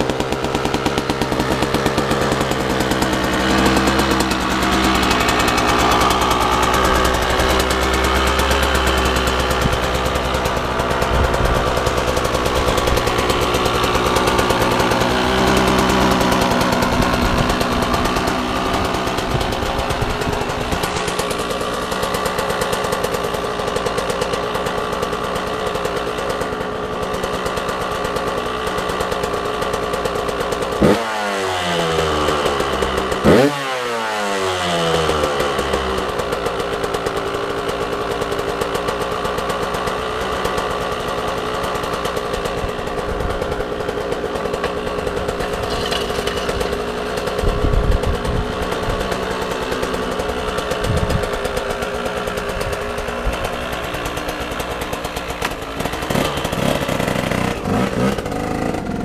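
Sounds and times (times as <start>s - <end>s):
two-stroke engine idling and revving: 0.0s - 59.0s.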